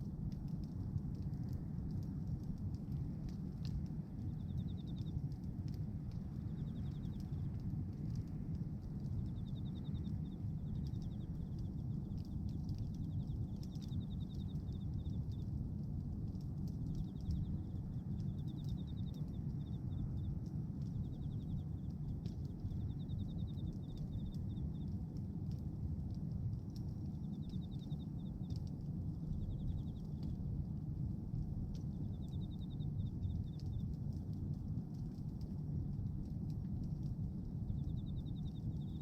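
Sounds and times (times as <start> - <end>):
fire crackling and popping: 0.0 - 39.0
low rumble of fire: 0.0 - 39.0.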